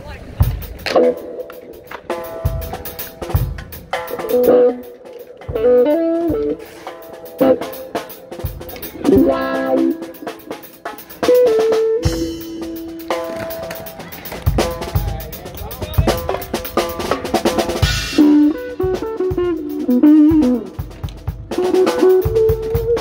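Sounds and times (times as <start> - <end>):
song with drums and guitar: 0.4 - 23.0.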